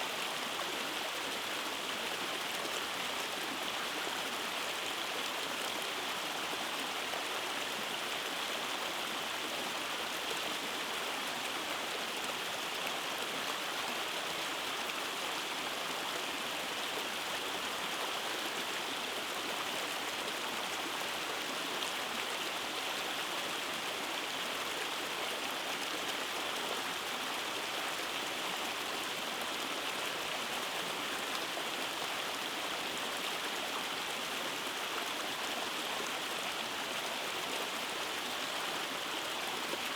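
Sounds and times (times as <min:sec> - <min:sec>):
stream over small cascades: 0:00.0 - 0:39.9.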